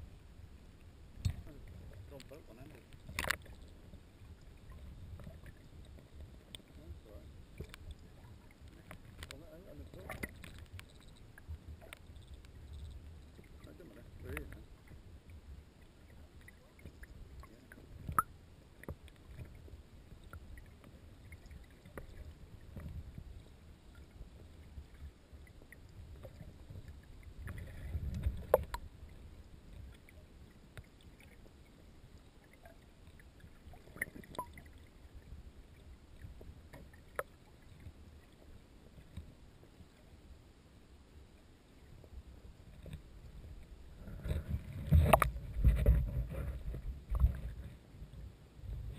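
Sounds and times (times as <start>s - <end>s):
muffled underwater rumble: 0.0s - 48.9s.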